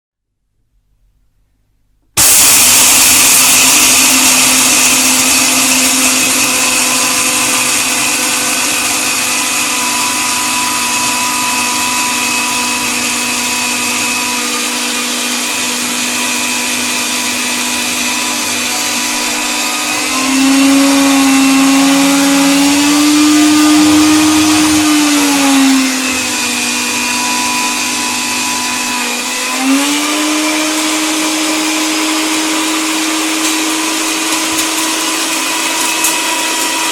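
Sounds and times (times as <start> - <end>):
electric coffee grinder running: 2.2 - 36.9.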